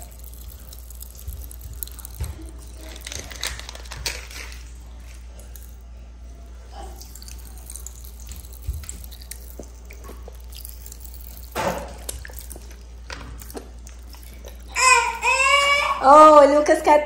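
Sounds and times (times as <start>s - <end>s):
popping candy crackling: 0.0s - 5.8s, 7.0s - 15.6s.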